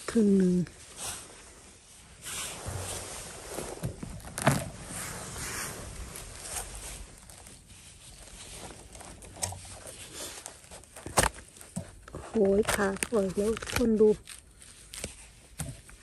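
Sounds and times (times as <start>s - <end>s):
rustling in leaf litter: 0.2s - 11.0s, 12.4s - 15.4s
handling noises: 1.2s - 16.0s.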